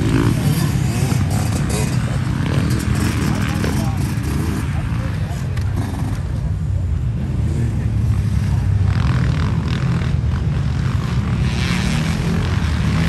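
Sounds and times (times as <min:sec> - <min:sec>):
dirt bike engines droning: 0:00.0 - 0:13.0.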